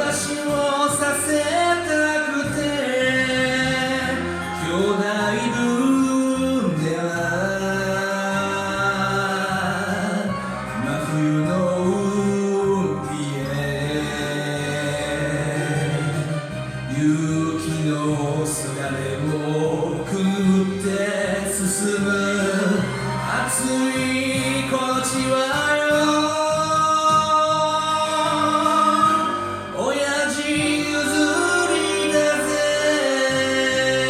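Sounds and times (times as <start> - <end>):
karaoke ballad backing track: 0.0 - 34.0.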